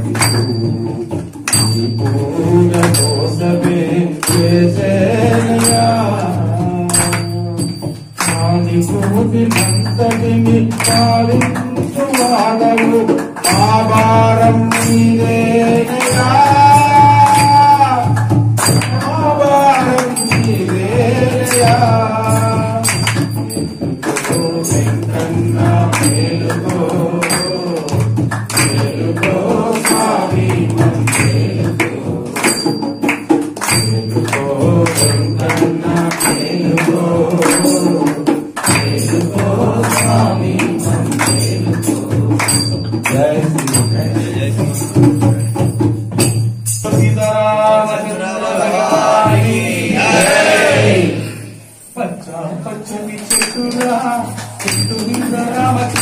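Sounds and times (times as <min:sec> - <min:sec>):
man singing through loudspeaker: 0:00.0 - 0:32.7, 0:33.8 - 0:45.6, 0:46.8 - 0:56.0.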